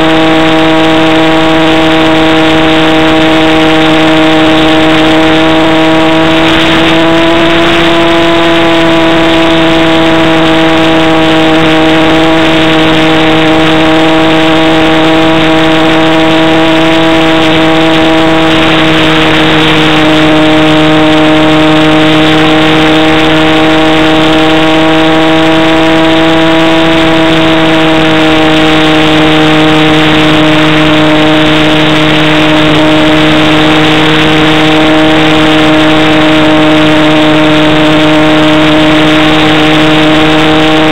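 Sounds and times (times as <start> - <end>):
model plane motor and propeller: 0.0 - 40.9.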